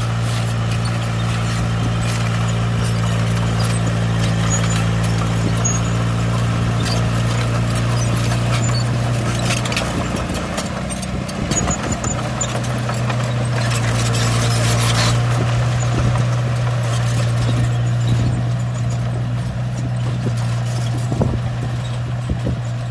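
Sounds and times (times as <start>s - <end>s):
heavy machinery diesel engine: 0.0s - 22.9s.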